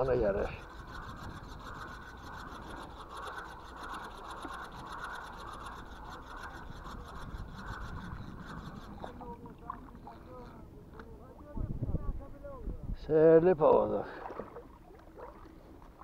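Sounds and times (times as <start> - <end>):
fishing reel ticking whirr: 0.0 - 11.4, 12.2 - 16.0.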